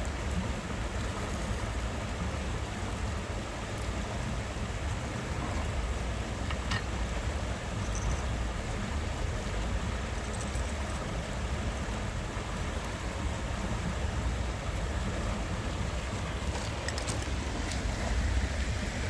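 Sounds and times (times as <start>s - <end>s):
rushing outdoor noise with rumble: 0.0s - 19.0s.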